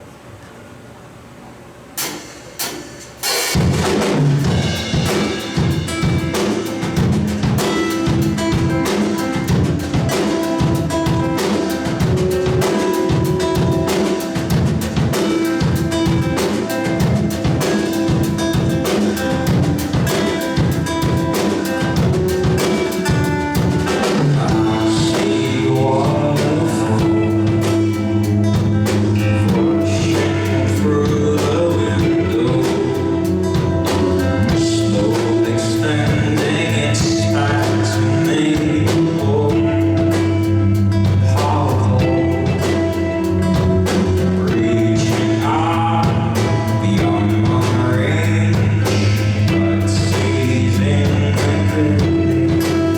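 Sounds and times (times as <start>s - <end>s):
drum kit: 2.0s - 52.9s
electric guitars: 3.2s - 52.9s
bass guitar notes: 3.6s - 52.9s.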